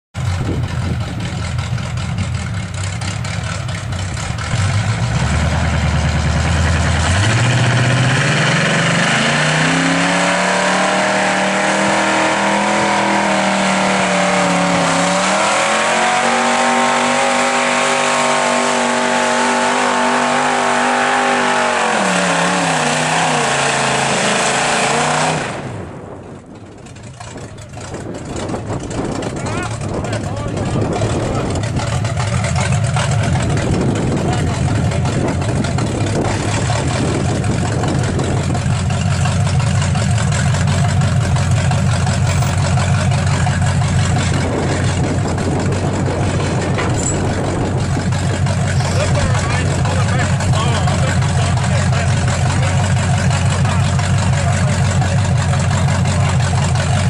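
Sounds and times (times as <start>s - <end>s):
truck engine revving hard: 0.2s - 57.0s.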